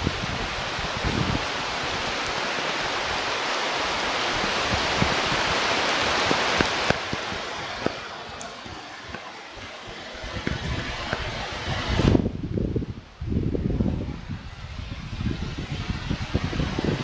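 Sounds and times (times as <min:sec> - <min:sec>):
weather rushing on microphone: 0:00.0 - 0:17.0.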